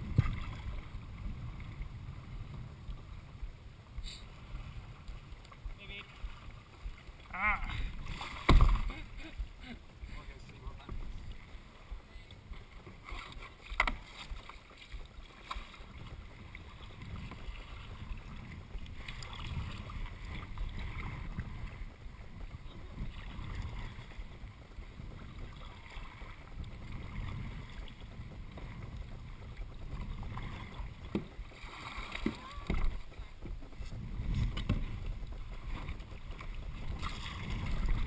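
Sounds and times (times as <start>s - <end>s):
low uneven rumble: 0.0s - 38.0s
paddle strokes splashing: 0.0s - 38.0s.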